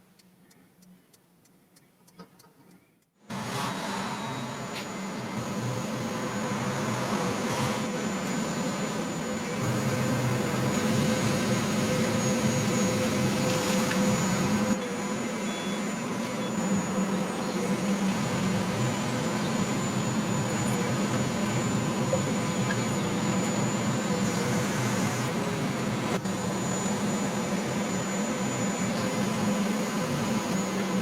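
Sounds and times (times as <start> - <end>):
motor drone: 3.3 - 31.0
thin high whine: 3.3 - 31.0.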